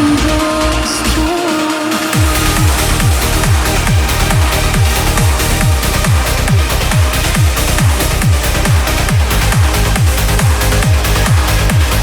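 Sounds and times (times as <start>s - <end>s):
synth lead melody: 0.0s - 12.0s
fast rolling bass: 2.2s - 12.0s.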